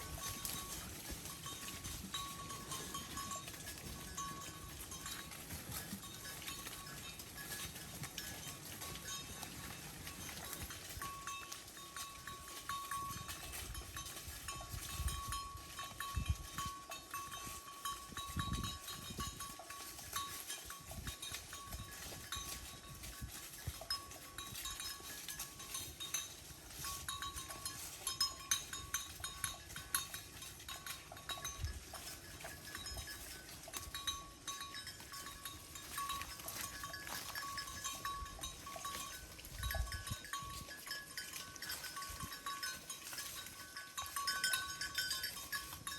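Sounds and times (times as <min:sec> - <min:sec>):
cow bells clanking: 0:00.0 - 0:45.9.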